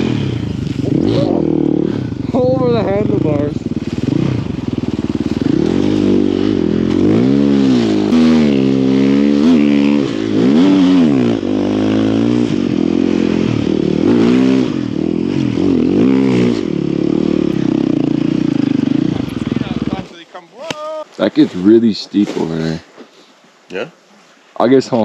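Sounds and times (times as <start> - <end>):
snow bike engine revving: 0.0 - 20.2.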